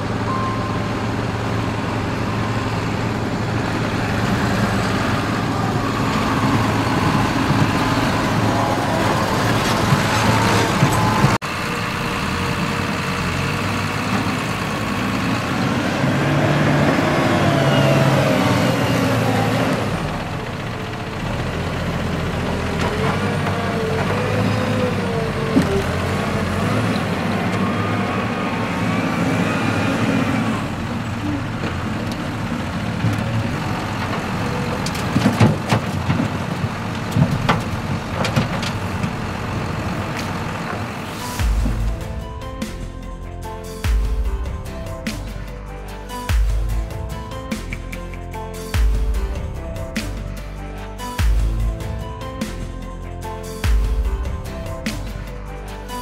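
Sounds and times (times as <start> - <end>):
diesel engines running hard: 0.0 - 56.0.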